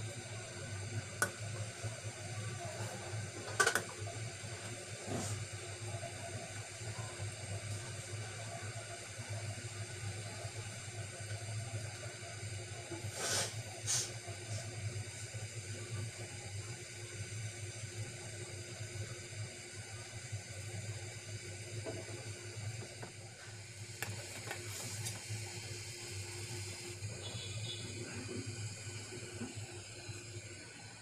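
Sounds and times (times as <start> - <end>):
rice boiling hiss: 0.0 - 31.0.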